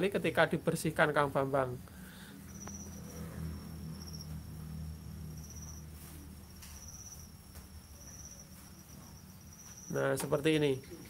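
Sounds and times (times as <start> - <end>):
low steady hum: 0.0 - 11.0
cricket chirping: 1.2 - 11.0.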